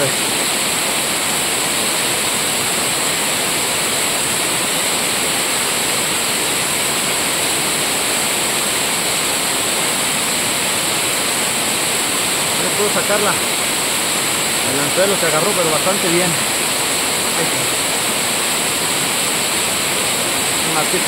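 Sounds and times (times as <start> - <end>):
water rushing over river drop: 0.0 - 21.0.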